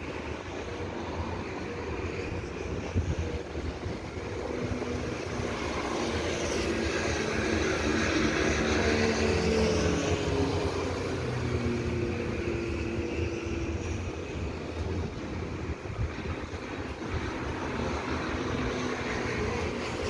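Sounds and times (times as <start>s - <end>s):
electric train rumbling on tracks: 0.0s - 20.0s.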